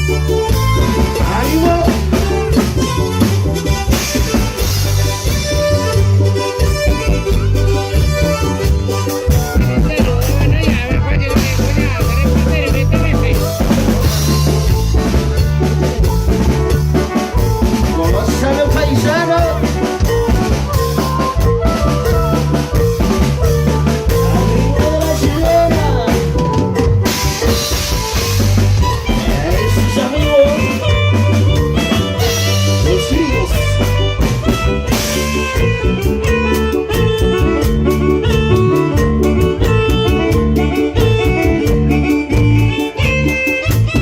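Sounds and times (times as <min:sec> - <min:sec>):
drum kit beat: 0:00.0 - 0:44.0
melody: 0:00.0 - 0:44.0
repeating bass line: 0:00.0 - 0:44.0.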